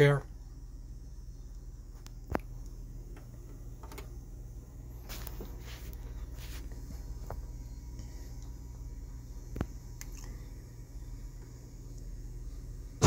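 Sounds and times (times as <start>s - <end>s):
turntable low hum: 0.0s - 13.0s.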